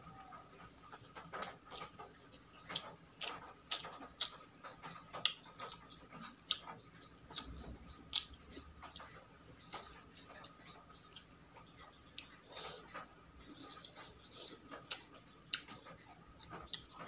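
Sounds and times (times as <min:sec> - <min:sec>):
chewing with wet mouth clicks: 0:00.8 - 0:17.0.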